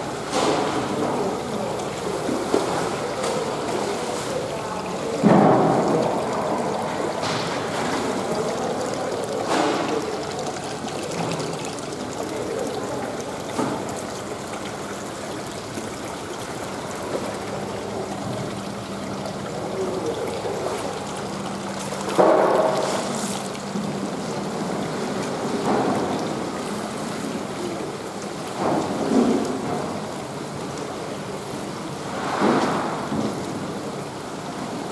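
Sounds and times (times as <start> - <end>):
water running and bubbling: 0.0 - 34.9
water splashing: 0.0 - 34.9.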